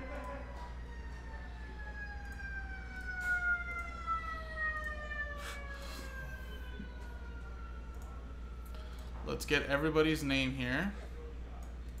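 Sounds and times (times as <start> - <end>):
high siren-like tone sliding down: 0.0 - 9.9.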